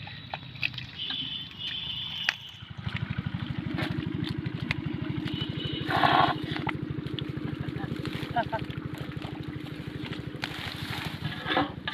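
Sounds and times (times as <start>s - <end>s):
small pump engine running: 0.0s - 11.9s.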